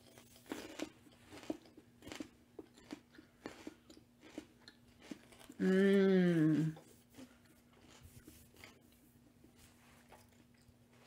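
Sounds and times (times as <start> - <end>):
faint steady hum: 0.0 - 11.0
person chewing crunchy celery: 0.0 - 11.0.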